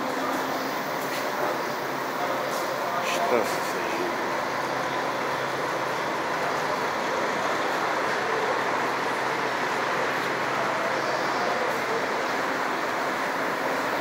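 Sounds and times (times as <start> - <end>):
bus engines idling: 0.0 - 14.0.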